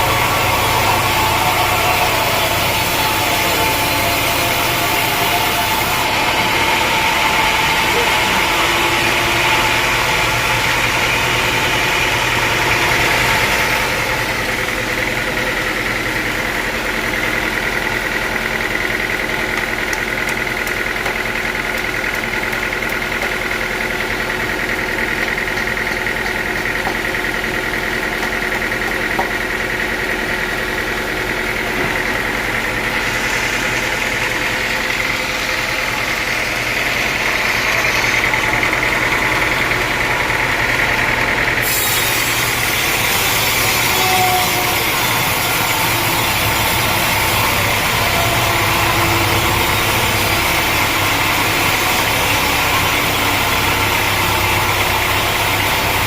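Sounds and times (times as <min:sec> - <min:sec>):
saw running with high whine: 0:00.0 - 0:56.0.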